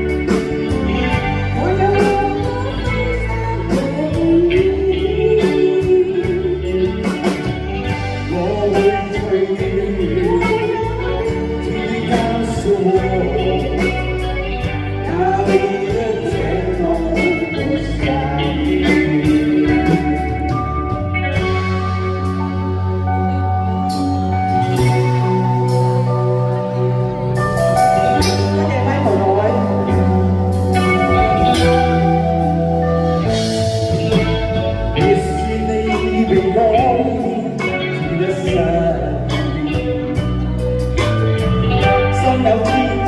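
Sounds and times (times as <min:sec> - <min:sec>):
instrumental accompaniment with beat: 0:00.0 - 0:43.0
person singing: 0:00.0 - 0:43.0.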